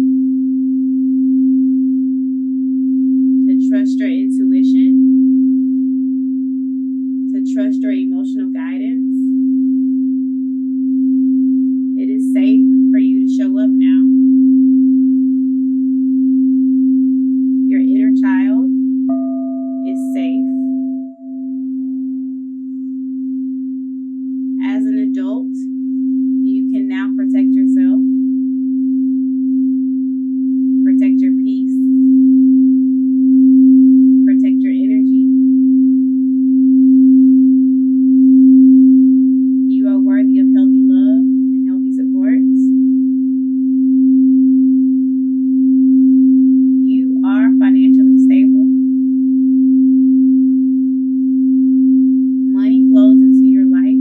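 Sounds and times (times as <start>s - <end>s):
singing bowl low tone: 0.0s - 54.0s.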